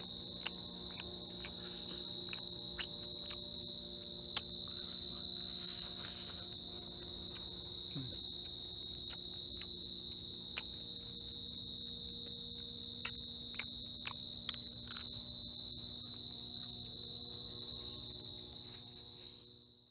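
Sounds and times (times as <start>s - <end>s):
insects droning: 0.0s - 19.9s.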